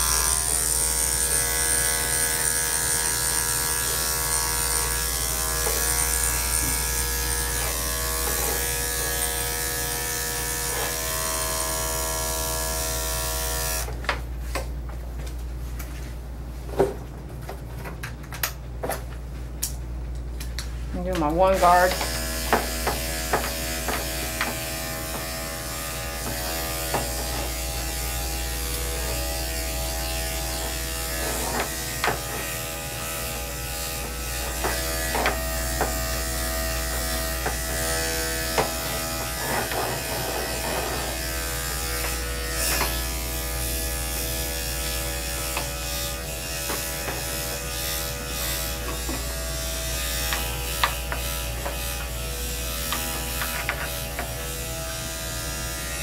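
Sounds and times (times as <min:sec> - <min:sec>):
electric dog clipper running: 0:00.0 - 0:14.0, 0:21.2 - 0:56.0.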